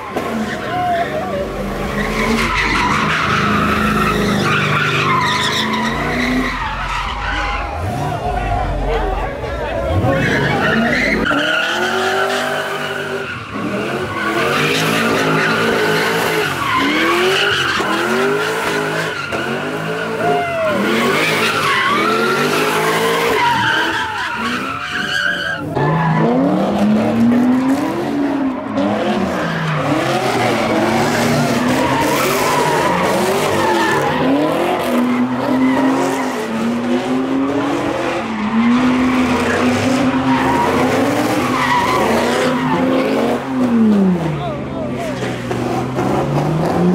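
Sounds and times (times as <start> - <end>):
car engines revving: 0.0 - 46.9
tyres squealing and skidding: 0.0 - 46.9.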